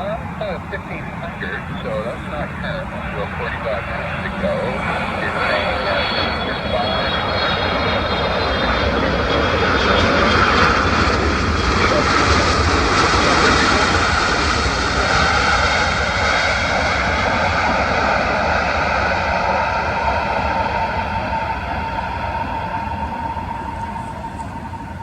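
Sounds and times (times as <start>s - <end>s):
high jet engine whine: 0.0s - 25.0s
jet airliner roar: 0.0s - 25.0s.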